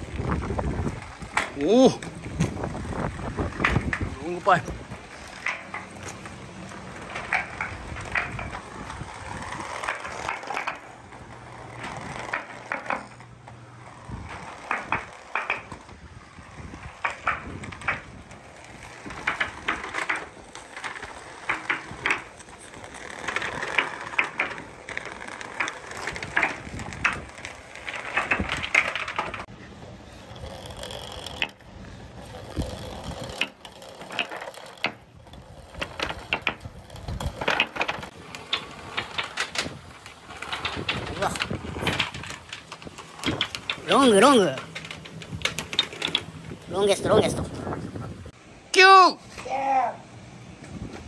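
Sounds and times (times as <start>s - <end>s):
balls rolling down a pipe: 0.0s - 48.4s.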